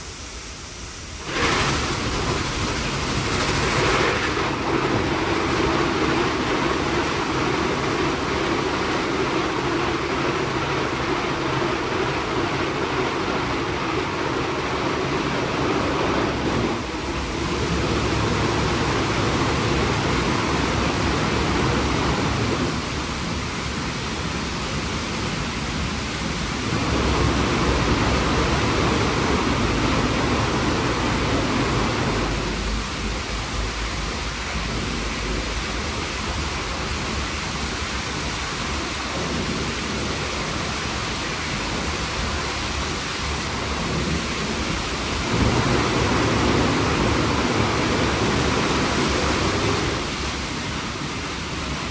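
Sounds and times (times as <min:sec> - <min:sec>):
car wash brushes and water spraying: 0:00.0 - 0:51.9.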